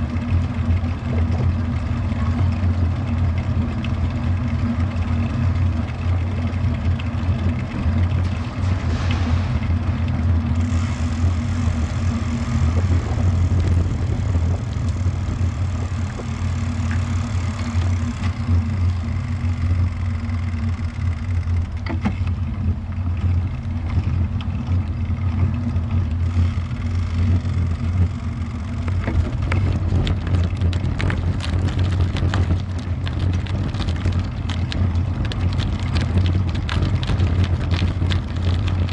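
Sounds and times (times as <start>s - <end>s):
wind rumble on microphone: 0.0s - 20.0s, 21.8s - 38.9s
bicycle clicks and rattles: 0.0s - 38.9s
tyre and road noise: 0.0s - 38.9s.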